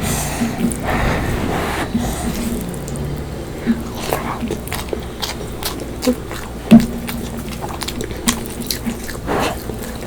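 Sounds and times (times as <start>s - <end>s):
person chewing food wetly: 0.0s - 10.0s.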